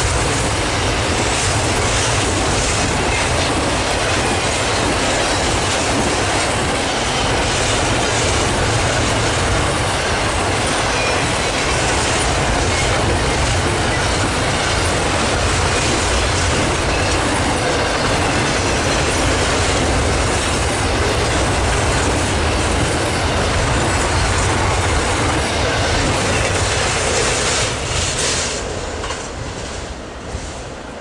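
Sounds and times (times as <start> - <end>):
train cars clanking: 0.0 - 30.8
train wheels rumbling on rail: 0.0 - 31.0.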